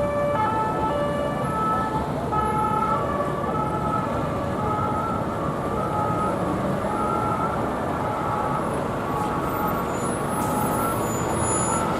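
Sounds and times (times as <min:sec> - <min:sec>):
city traffic noise: 0:00.0 - 0:11.9
two-tone police siren: 0:00.0 - 0:11.9.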